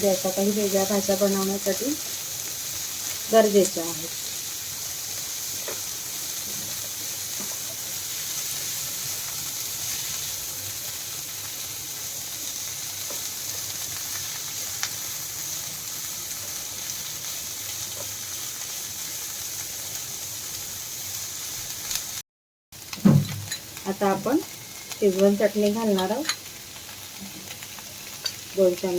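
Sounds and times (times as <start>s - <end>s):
vegetables sizzling in hot oil: 0.0s - 22.2s, 22.8s - 28.9s.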